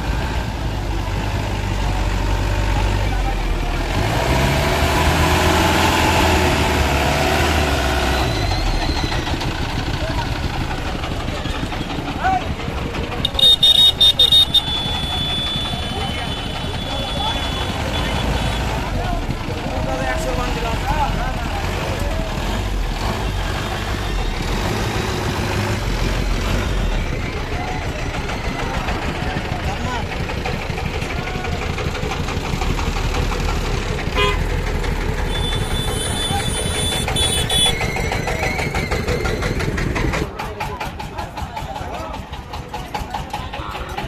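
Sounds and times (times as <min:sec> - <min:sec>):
outdoor market hubbub: 0:00.0 - 0:44.0
truck engine idling: 0:00.0 - 0:44.0.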